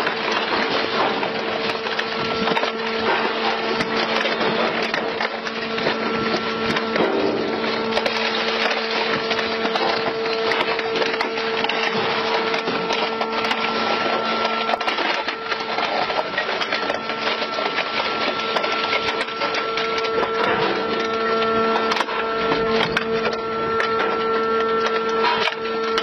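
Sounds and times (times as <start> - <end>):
machine hum: 0.0 - 26.0
wood crackling and splintering: 0.0 - 26.0.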